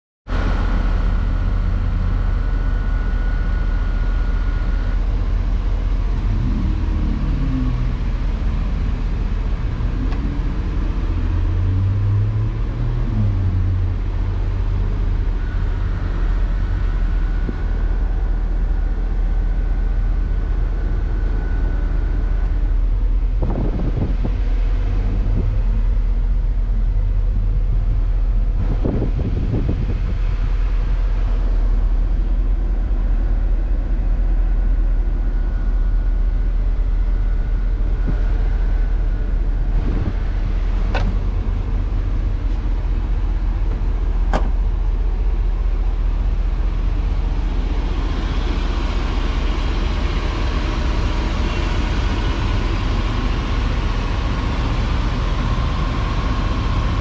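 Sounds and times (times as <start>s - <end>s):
street traffic rumble: 0.3s - 57.0s.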